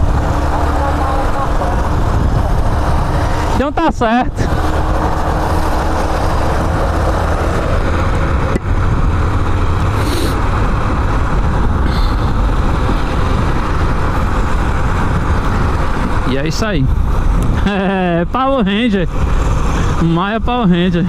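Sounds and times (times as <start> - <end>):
motorcycle engine running: 0.0 - 18.3
wind rushing on microphone: 0.0 - 21.0.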